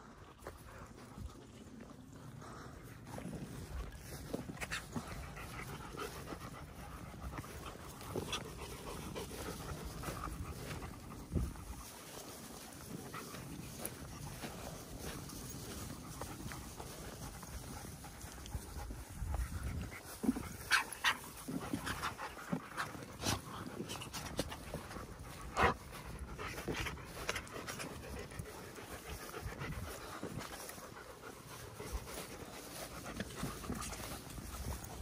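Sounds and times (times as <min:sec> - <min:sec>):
dogs panting: 0:00.0 - 0:35.0.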